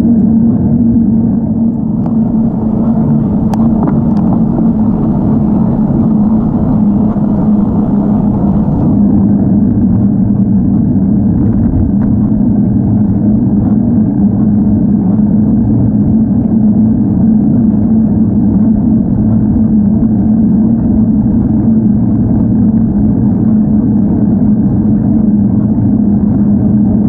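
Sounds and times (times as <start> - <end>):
wind and road noise rumble: 0.0 - 27.0.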